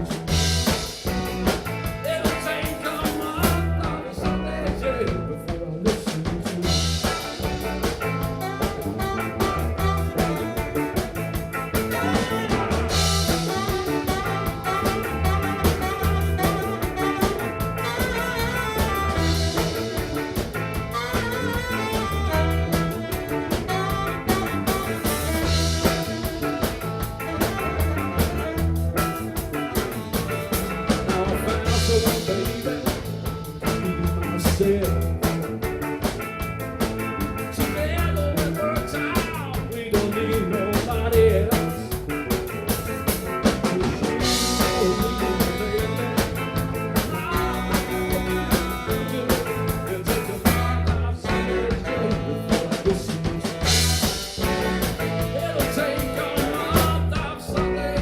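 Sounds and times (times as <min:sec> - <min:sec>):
repeating bass line: 0:00.0 - 0:05.5, 0:06.4 - 0:58.0
drum kit beat: 0:00.0 - 0:58.0
live blues band playing: 0:00.0 - 0:58.0.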